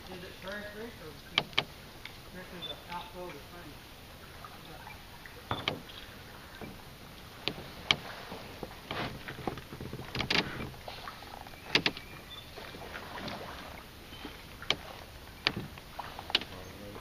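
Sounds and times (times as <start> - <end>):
paddle knocking canoe side: 0.0 - 3.5, 4.6 - 17.0
paddle swishing in water: 0.0 - 17.0.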